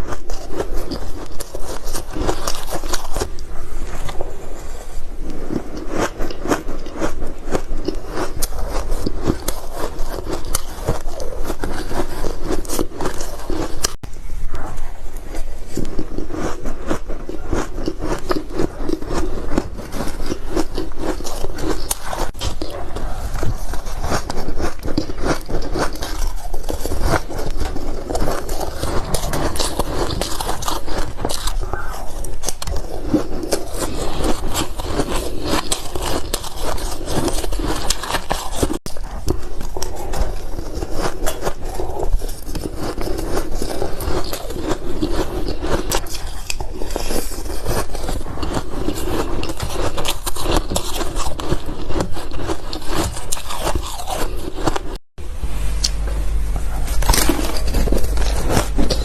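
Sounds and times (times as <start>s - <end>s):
chewing ice crunches: 0.0s - 14.0s, 15.3s - 55.0s, 56.6s - 59.0s.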